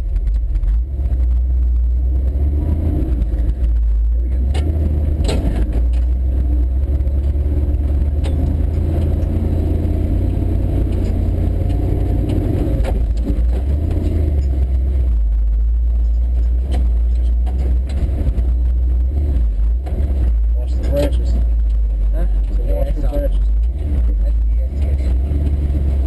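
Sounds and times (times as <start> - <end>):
pickup engine droning: 0.0 - 26.0.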